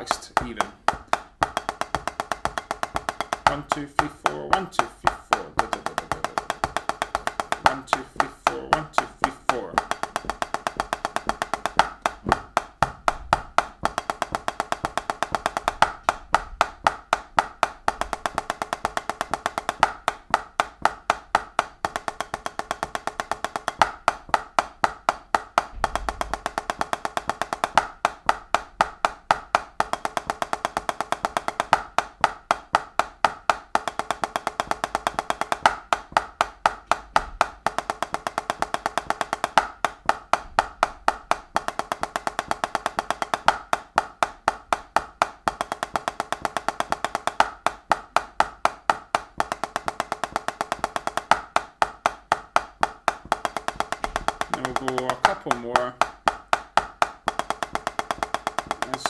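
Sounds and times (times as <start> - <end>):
drumsticks playing fast single strokes: 0.0 - 59.0.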